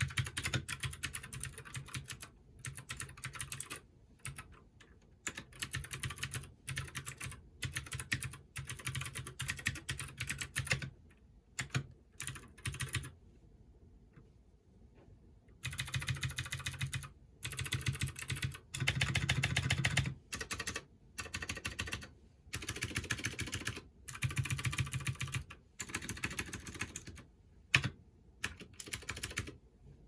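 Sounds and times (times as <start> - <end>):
clicky keyboard typing: 0.0 - 11.0, 11.6 - 13.2, 15.5 - 29.6.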